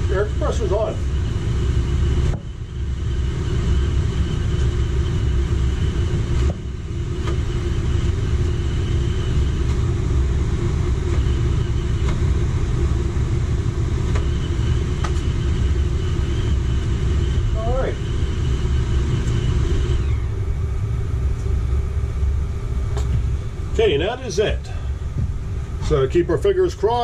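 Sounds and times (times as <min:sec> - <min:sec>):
air conditioner rumble and hum: 0:00.0 - 0:27.0.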